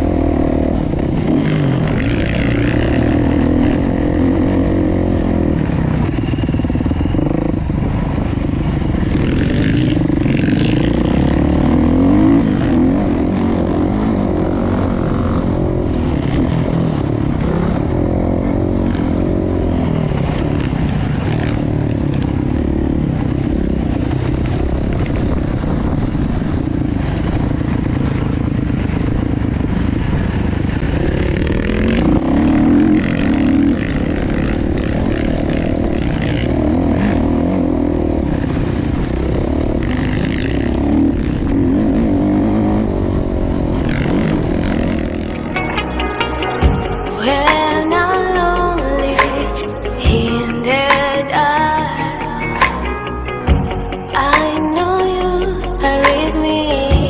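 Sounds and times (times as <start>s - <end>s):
motocross bike engine revving: 0.0s - 25.0s, 28.8s - 54.6s.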